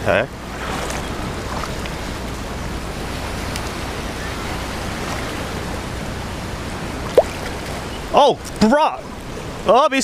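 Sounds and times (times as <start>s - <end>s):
ocean surf: 0.0s - 10.0s
wind: 0.0s - 10.0s.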